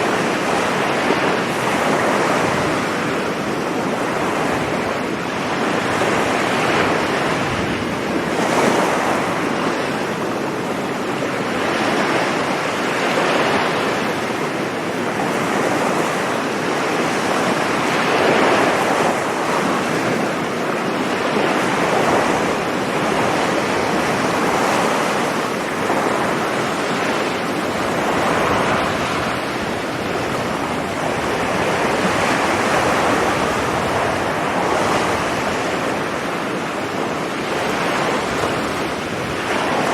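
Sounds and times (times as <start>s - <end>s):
surf breaking on a beach: 0.0s - 39.9s
wind on microphone: 0.0s - 39.9s.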